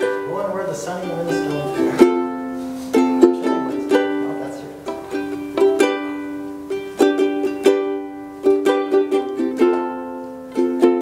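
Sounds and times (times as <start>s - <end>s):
ukulele chords: 0.0s - 11.0s.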